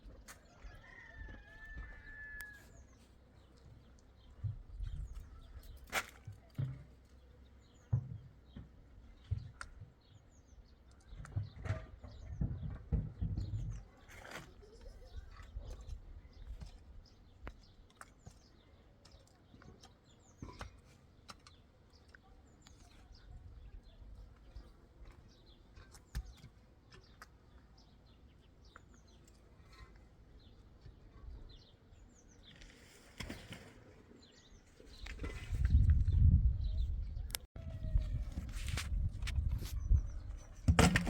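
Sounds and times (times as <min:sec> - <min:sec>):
small birds chirping: 0:00.0 - 0:38.4.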